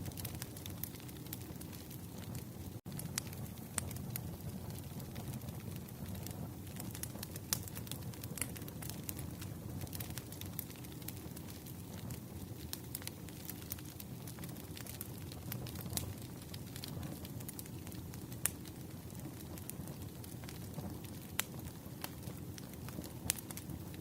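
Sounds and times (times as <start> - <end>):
campfire flames rumbling: 0.0 - 24.0
fire crackles and pops: 0.0 - 24.0.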